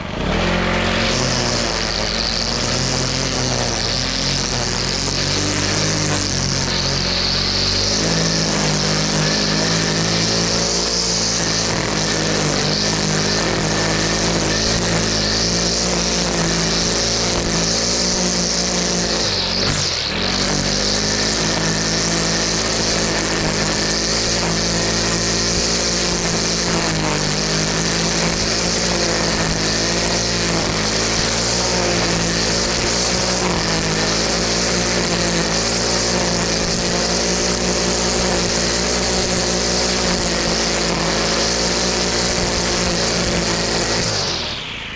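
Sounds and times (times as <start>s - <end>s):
small petrol engine running: 0.0s - 44.9s.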